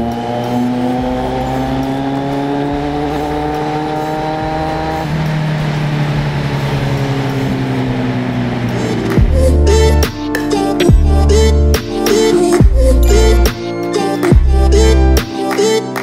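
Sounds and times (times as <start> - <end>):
motorcycle engine cruising: 0.0 - 15.2.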